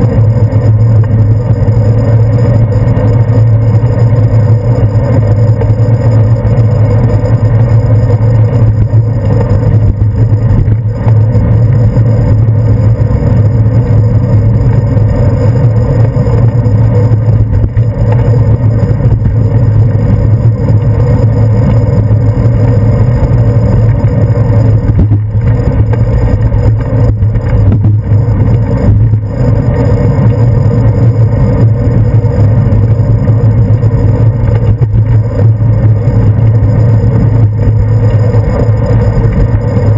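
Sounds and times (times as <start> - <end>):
bicycle road vibration: 0.0 - 39.9
wind rumble on microphone: 0.0 - 39.9.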